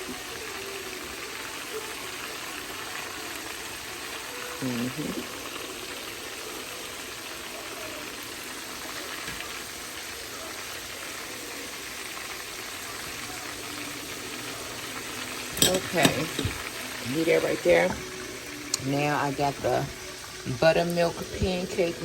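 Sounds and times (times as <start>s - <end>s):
chicken wings sizzling in oil: 0.0s - 22.0s.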